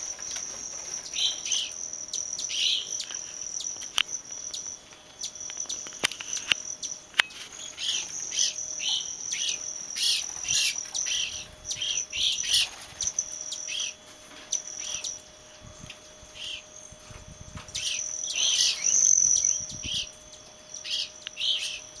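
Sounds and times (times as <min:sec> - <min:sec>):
birds chirping: 0:00.0 - 0:22.0
steady high-pitched trill: 0:00.0 - 0:22.0.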